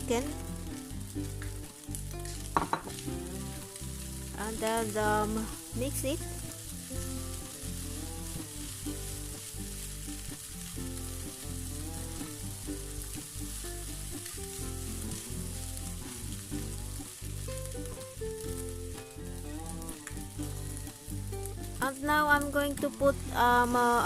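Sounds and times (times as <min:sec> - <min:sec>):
background music with bass line: 0:00.0 - 0:24.0
rice sizzling in hot pan: 0:00.0 - 0:24.0.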